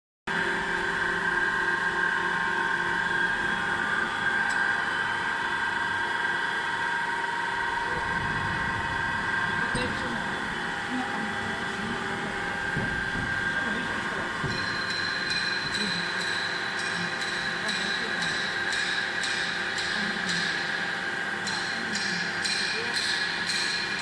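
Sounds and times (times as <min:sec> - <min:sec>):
hydraulic power unit whining: 0:00.3 - 0:24.0.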